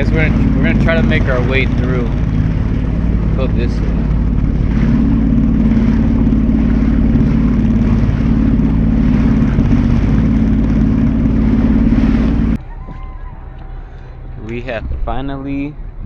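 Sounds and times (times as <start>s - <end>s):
jet ski engine droning: 0.0s - 16.0s.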